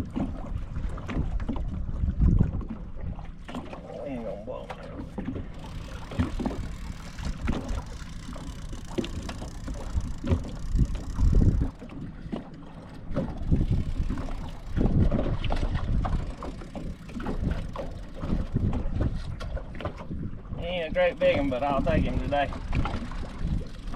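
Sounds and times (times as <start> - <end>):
wind buffeting microphone: 0.0 - 3.8, 5.0 - 23.9.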